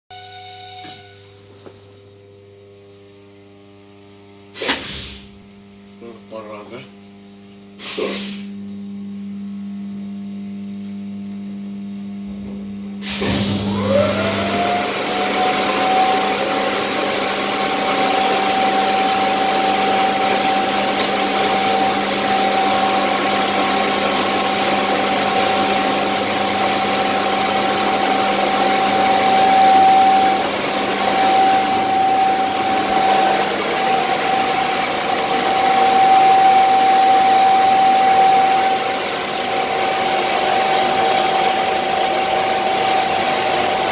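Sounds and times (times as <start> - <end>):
loud machinery noise with whine: 0.1 - 43.9.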